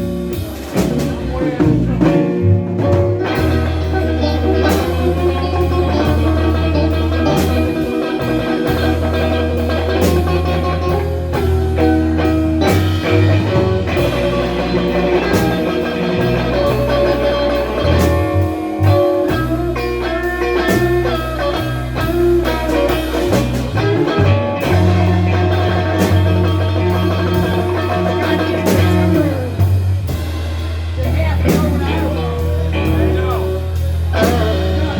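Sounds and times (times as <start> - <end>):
blues band playing: 0.0 - 34.9
electric guitar lead: 0.0 - 34.9.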